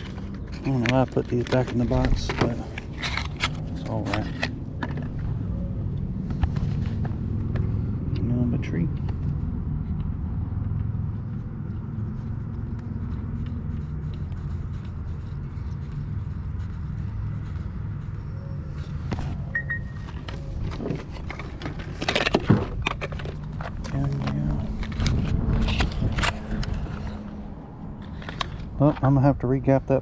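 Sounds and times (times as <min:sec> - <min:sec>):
low engine-like rumble: 0:00.0 - 0:30.0.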